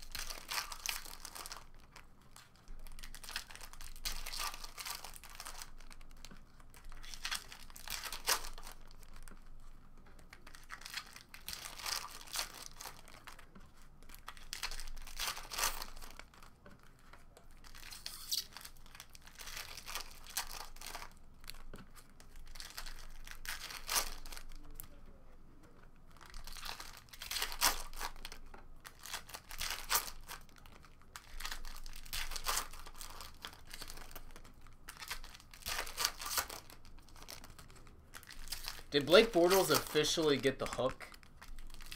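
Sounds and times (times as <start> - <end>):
foil wrappers tearing and crinkling: 0.0 - 9.3, 10.3 - 25.0, 26.1 - 41.9.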